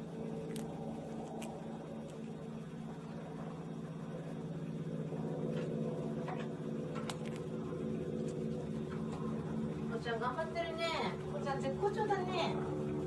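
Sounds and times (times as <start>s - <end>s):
low pulsing machine hum: 0.0s - 13.0s.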